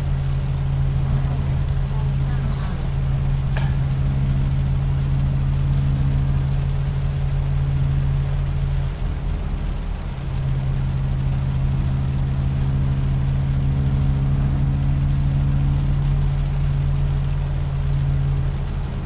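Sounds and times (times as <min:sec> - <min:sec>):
car engine drone: 0:00.0 - 0:19.0
tyres hissing on wet road: 0:00.0 - 0:19.0.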